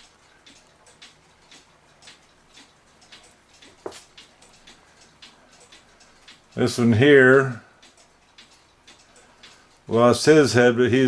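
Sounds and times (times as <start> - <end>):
clock ticking faintly: 0.0 - 11.0.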